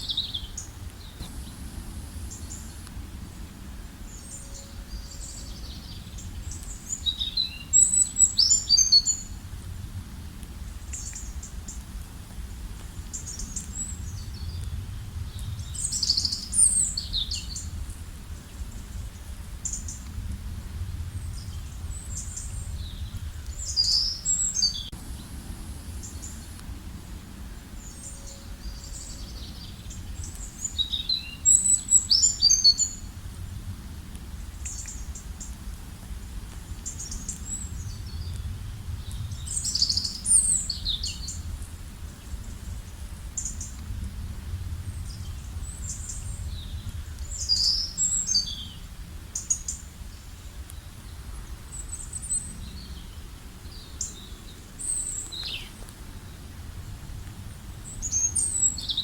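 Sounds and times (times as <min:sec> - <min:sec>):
steady low rumble: 0:00.0 - 0:08.4, 0:09.2 - 0:32.2, 0:32.8 - 0:59.0
songbirds chirping and trilling: 0:00.0 - 0:09.5, 0:10.6 - 0:35.8, 0:36.6 - 0:44.0, 0:44.6 - 0:59.0.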